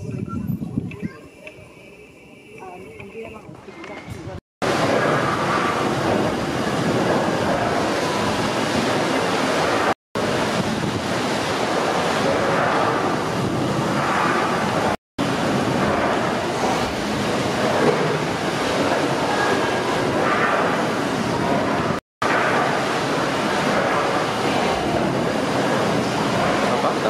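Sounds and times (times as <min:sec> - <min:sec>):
steam engine machinery running: 0:04.6 - 0:27.0.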